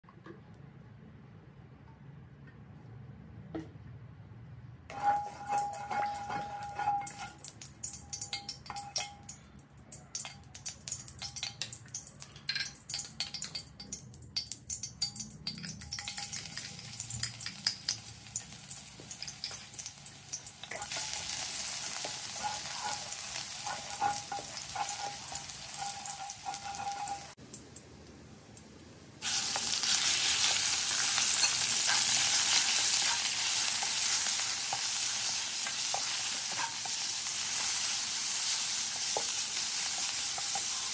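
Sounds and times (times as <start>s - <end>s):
oil sizzling in a wok: 4.9s - 40.9s.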